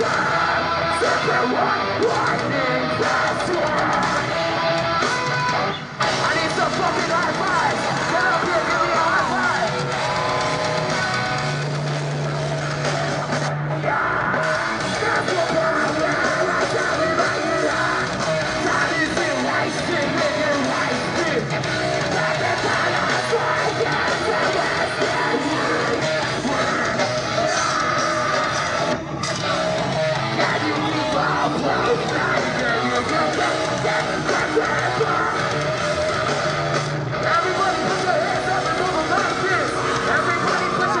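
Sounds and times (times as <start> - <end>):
distorted electric guitars: 0.0 - 41.0
drums: 0.0 - 41.0
harsh screamed vocals: 0.0 - 41.0.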